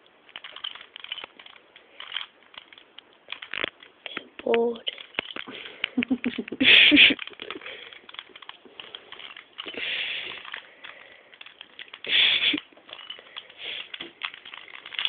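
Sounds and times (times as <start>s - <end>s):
plastic puzzle cube clicking: 0.3s - 15.0s.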